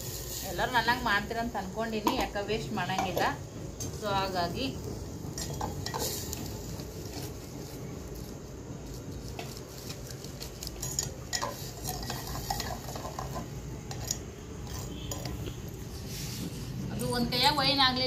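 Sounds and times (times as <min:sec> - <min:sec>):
paste sizzling in a pot: 0:00.0 - 0:17.5.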